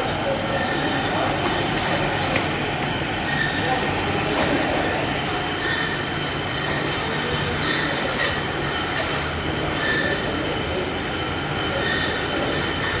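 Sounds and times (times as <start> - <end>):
shrink-wrap machine running: 0.0 - 13.0.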